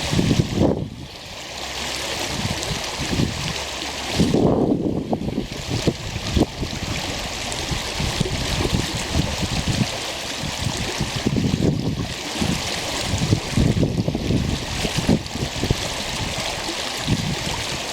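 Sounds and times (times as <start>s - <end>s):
wind buffeting microphone: 0.0s - 1.2s, 2.2s - 17.9s
stream water rushing: 0.0s - 17.9s.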